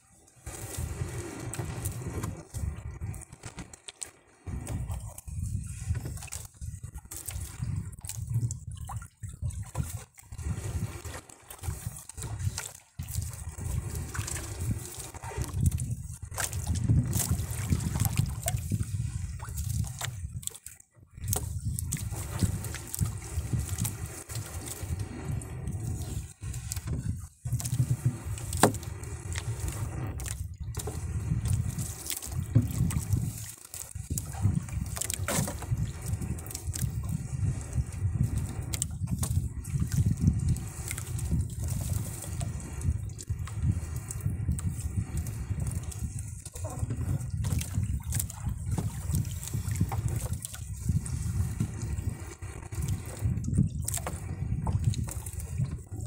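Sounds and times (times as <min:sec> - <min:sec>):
net scraping against hull: 0:00.0 - 0:56.0.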